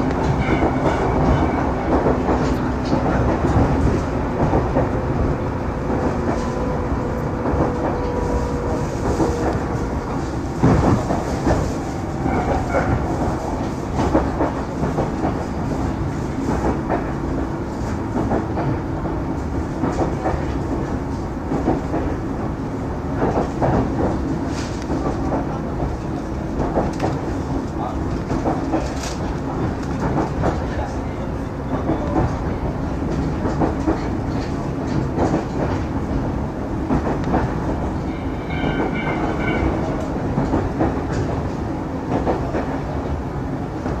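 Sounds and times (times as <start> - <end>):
train running gear rumble: 0.0 - 44.0.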